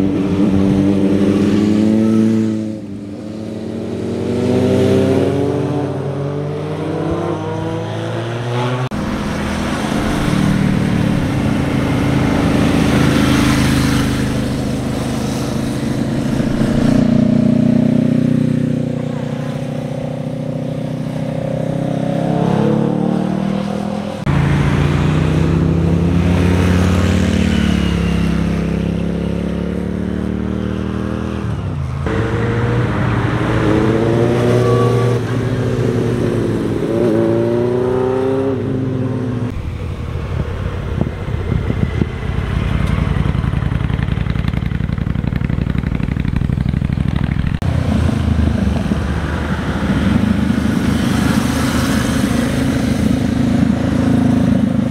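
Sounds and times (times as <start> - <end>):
motorcycle engines revving: 0.0 - 54.9.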